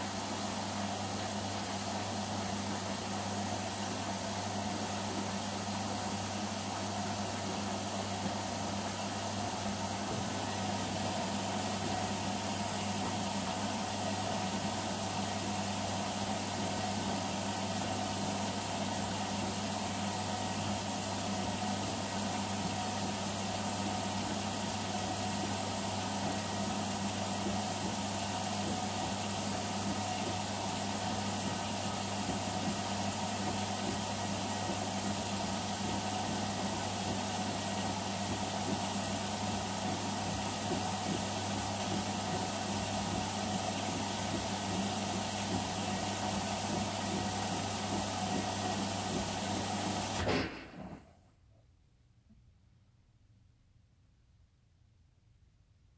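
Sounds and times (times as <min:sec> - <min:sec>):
washing machine motor hum: 0:00.0 - 0:51.2.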